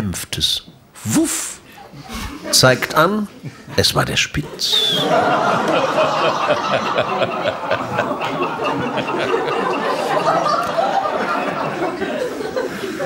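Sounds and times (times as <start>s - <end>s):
audience laughing: 1.8s - 13.0s.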